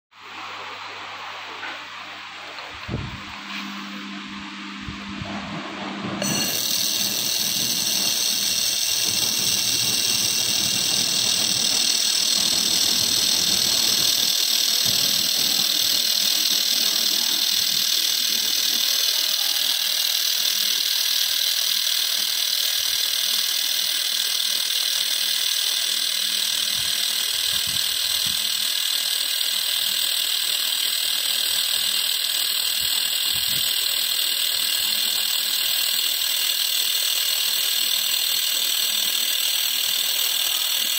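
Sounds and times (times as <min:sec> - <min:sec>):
laser welding hiss: 0:06.2 - 0:40.9.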